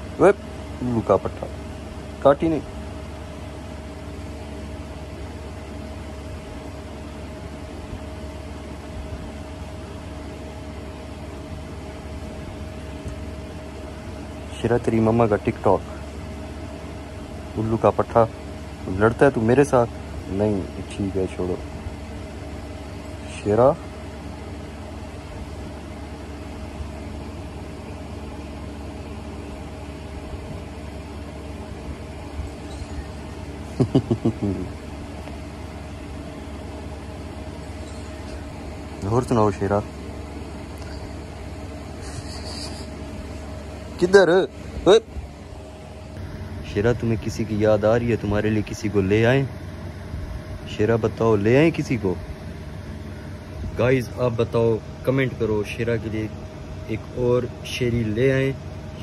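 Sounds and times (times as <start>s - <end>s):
appliance mechanical hum and hiss: 0.0s - 59.0s.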